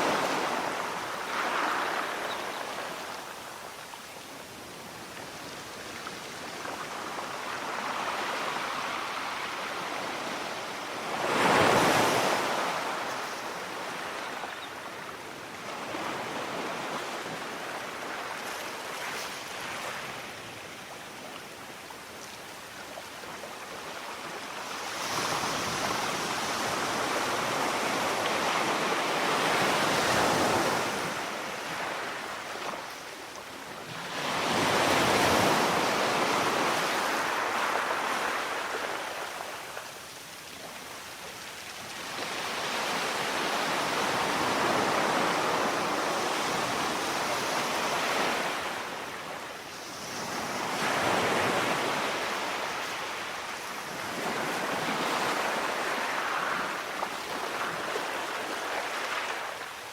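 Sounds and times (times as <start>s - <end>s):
sea waves washing ashore: 0.0s - 20.8s, 21.4s - 59.9s.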